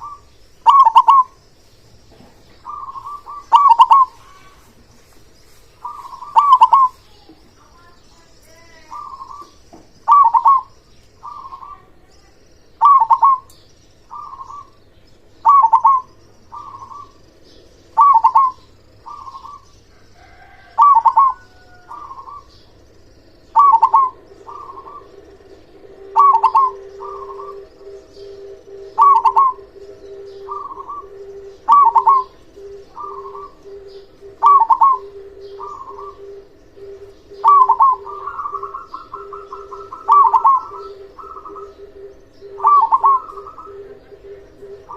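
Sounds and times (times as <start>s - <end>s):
zebra dove cooing: 0.0s - 1.4s, 2.4s - 5.0s, 5.6s - 12.1s, 12.8s - 44.9s.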